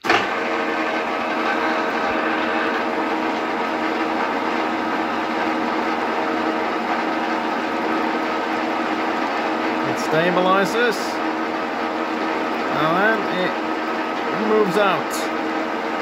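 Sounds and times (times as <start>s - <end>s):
milling machine spindle humming: 0.0s - 16.0s.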